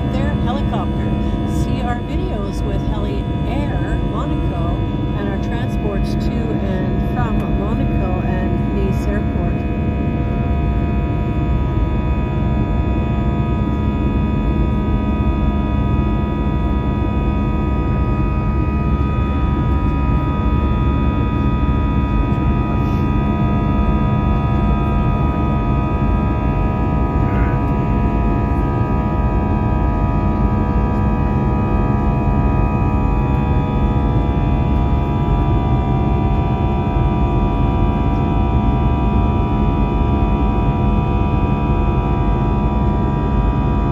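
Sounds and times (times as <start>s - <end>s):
jet engine low rumble: 0.0s - 43.9s
steady whining tones: 0.0s - 43.9s.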